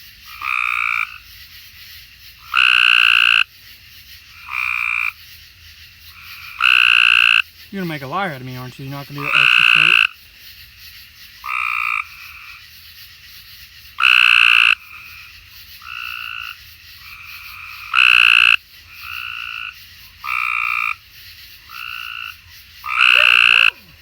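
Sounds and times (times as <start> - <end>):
tree frogs trilling: 0.0 - 24.0.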